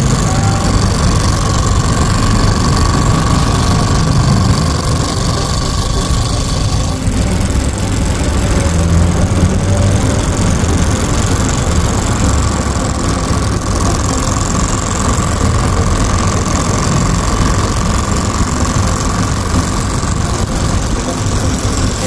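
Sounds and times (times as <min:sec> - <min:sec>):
faint steady whine: 0:00.0 - 0:22.0
model engine clattering: 0:00.0 - 0:22.0.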